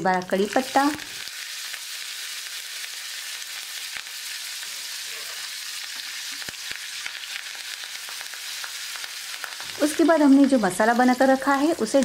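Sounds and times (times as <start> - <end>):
leaves sizzling in hot oil: 0.0 - 12.0
sharp crackles: 0.2 - 12.0.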